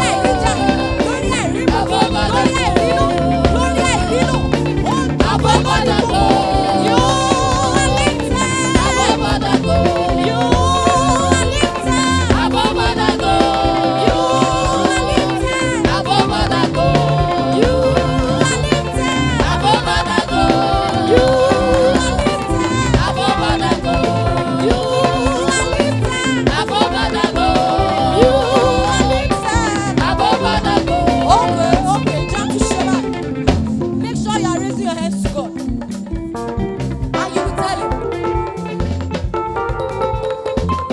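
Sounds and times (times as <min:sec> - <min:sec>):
gospel praise music from live band: 0:00.0 - 0:40.9.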